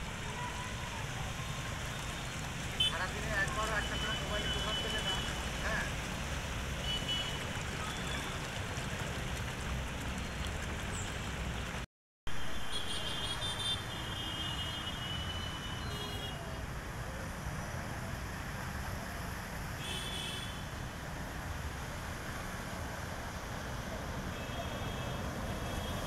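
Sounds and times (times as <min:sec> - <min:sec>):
road traffic: 0:00.0 - 0:26.0
vehicles through floodwater: 0:00.0 - 0:26.0.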